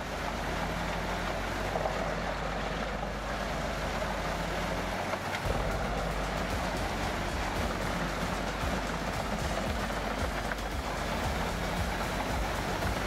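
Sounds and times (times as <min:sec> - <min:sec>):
wood chipper rushing noise: 0:00.0 - 0:13.0.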